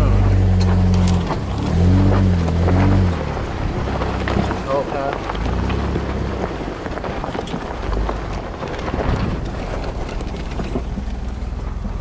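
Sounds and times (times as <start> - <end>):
knocks and rattles: 0.0 - 12.0
vehicle engine running: 0.0 - 12.0.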